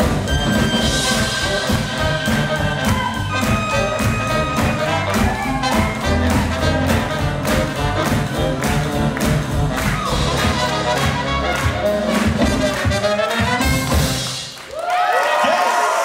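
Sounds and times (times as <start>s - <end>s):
swing jazz band playing: 0.0s - 14.6s.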